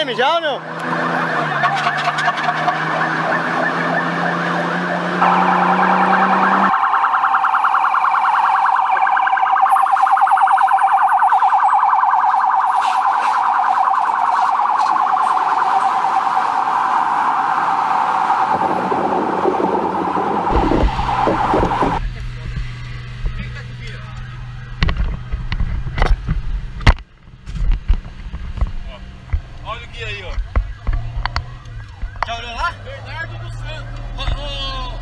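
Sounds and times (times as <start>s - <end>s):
fire engine siren warbling: 0.5s - 22.1s, 23.5s - 25.2s, 30.3s - 35.0s.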